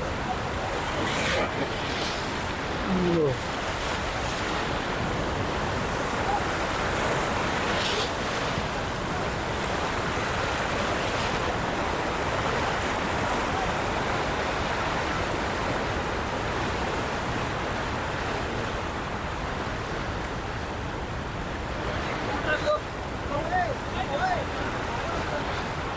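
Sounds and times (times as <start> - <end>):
water roaring through spillway: 0.0 - 25.9.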